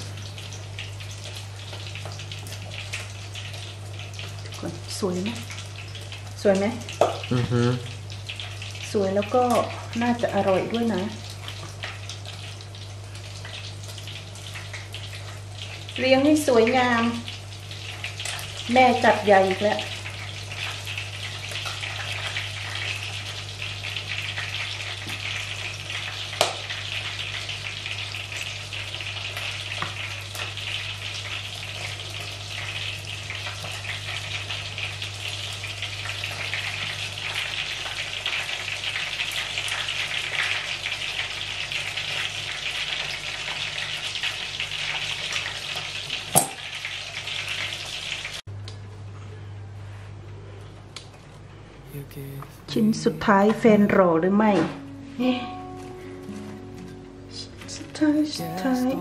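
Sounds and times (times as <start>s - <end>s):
deep-frying oil sizzling: 0.0s - 48.5s.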